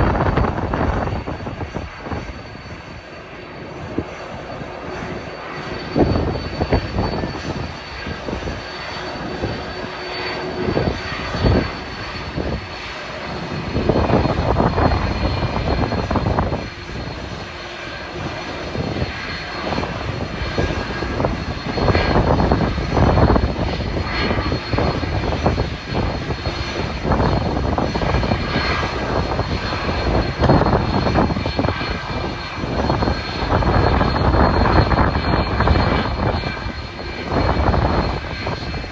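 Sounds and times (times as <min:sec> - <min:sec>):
jet engines whining: 0:00.0 - 0:38.9
wind buffeting microphone: 0:00.0 - 0:38.9.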